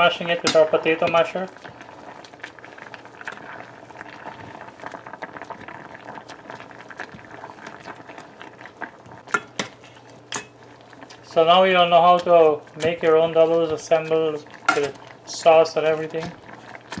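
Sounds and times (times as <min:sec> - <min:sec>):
pot of water boiling: 0:00.0 - 0:17.0.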